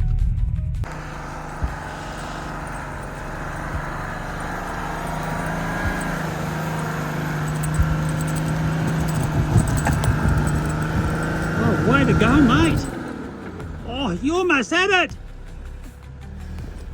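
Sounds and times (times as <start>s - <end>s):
vehicle engine humming: 0.8s - 16.9s.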